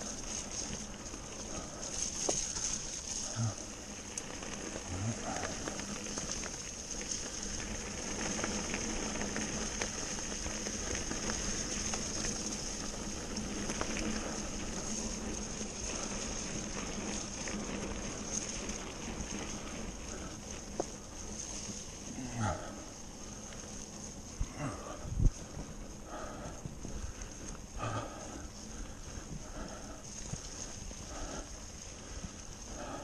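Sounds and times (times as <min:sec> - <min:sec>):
bike clicks and rattles: 0:00.0 - 0:33.0
bike tyres rolling on dirt: 0:00.0 - 0:33.0.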